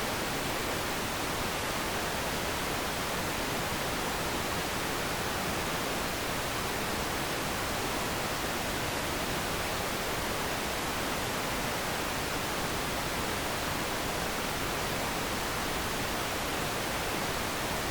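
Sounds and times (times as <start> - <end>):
tv static hiss: 0.0 - 17.9.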